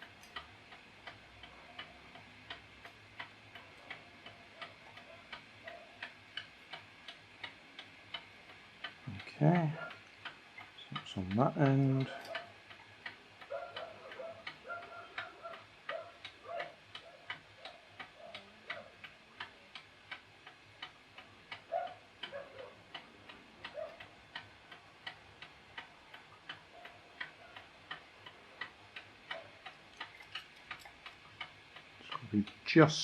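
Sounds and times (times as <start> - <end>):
mechanical clock ticking: 0.0 - 33.0.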